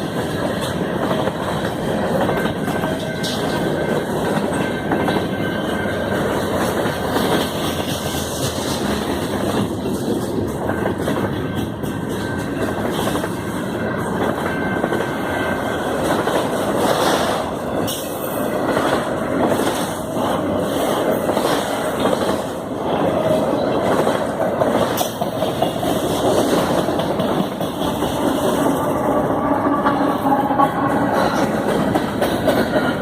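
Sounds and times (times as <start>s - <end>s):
freight train rumbling on rails: 0.0s - 33.0s
train cars clicking and clacking: 0.0s - 33.0s.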